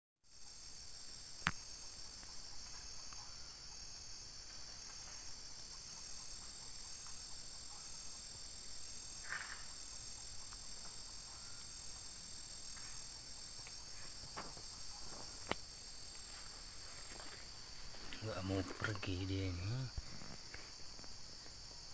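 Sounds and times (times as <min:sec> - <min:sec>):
forest insects chorus: 0:00.2 - 0:21.9.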